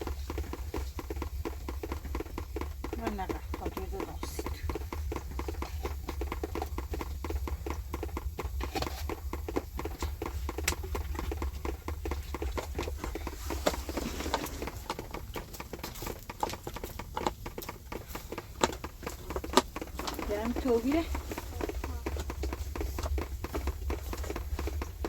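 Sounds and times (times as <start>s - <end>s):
regular knocks or crunches: 0.0s - 25.0s
steady low rumble: 0.0s - 25.0s.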